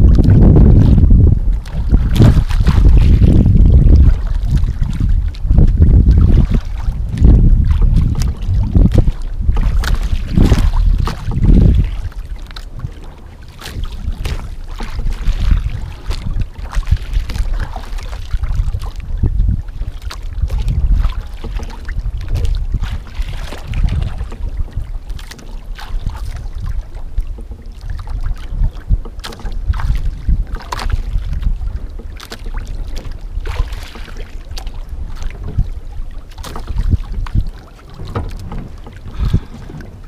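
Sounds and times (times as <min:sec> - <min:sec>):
water slapping against a hull: 0:00.0 - 0:40.0
wind buffeting the microphone: 0:00.0 - 0:40.0.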